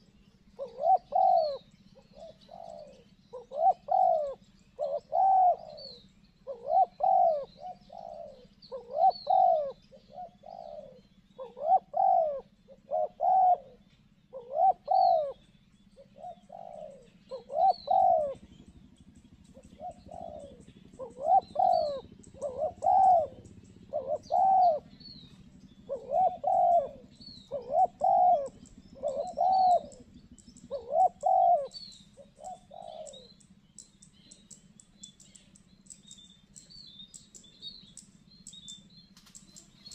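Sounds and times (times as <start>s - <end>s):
doves cooing: 0.0s - 39.9s
small bird chirping: 0.0s - 39.9s.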